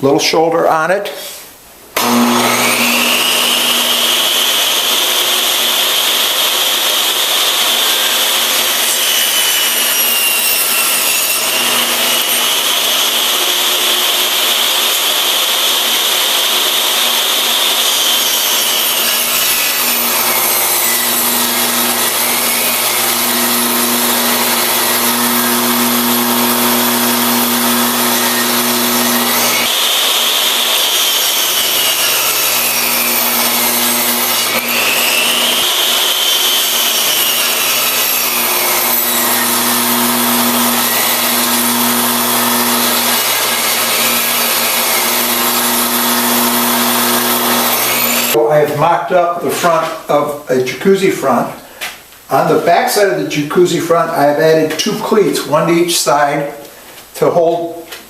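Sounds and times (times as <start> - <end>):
table saw cutting wood: 2.0 - 50.2.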